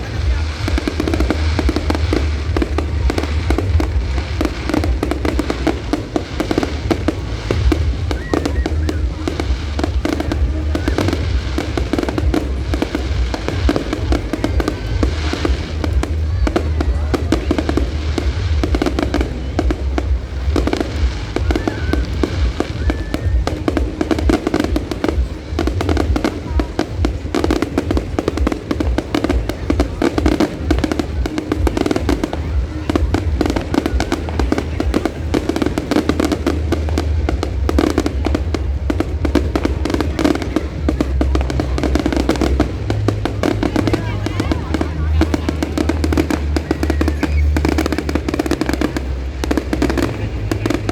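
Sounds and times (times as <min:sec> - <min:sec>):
fireworks bursting and crackling: 0:00.0 - 0:50.9
music playing: 0:00.0 - 0:50.9.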